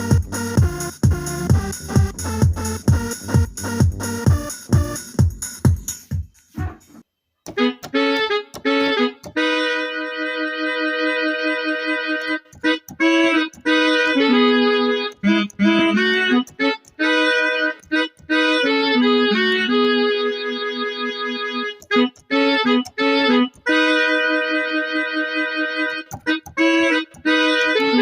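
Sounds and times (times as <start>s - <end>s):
synth keyboard chords and runs: 0.0s - 5.9s, 7.4s - 28.0s.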